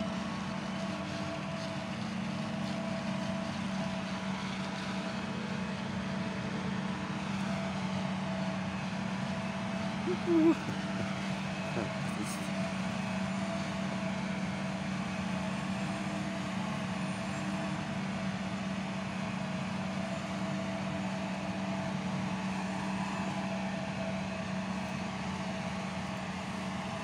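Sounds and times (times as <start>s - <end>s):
farm machinery engine drone: 0.0s - 27.0s.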